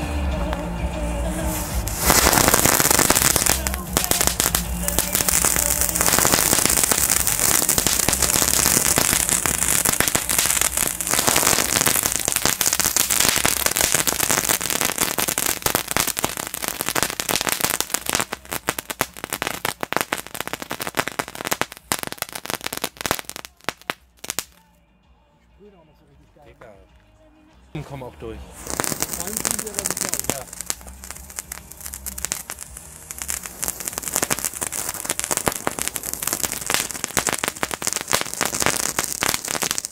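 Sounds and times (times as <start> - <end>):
fountain firework hissing and crackling: 0.0 - 24.6, 28.4 - 39.9.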